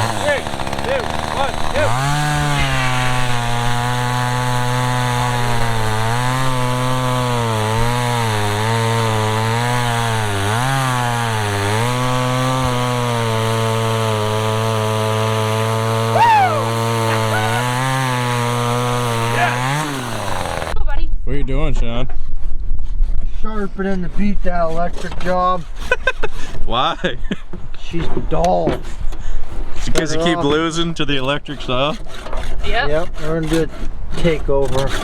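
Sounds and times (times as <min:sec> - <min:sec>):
chainsaw cutting log: 0:00.0 - 0:20.8, 0:24.7 - 0:27.1, 0:28.8 - 0:35.0.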